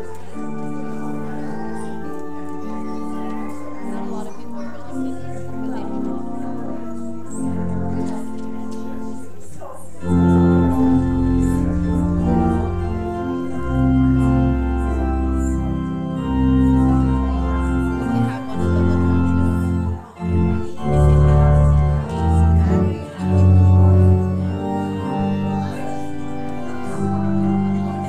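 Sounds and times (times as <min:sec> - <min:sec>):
church organ chords: 0:00.0 - 0:28.0.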